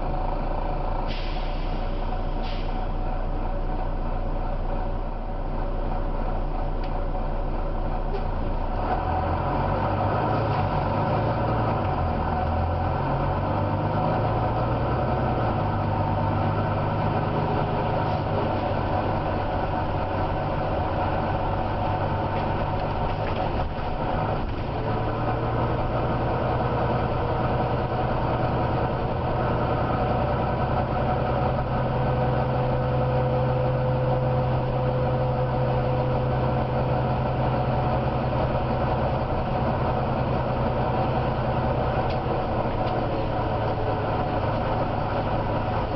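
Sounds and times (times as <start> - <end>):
bus diesel engine growling: 0.0 - 45.9.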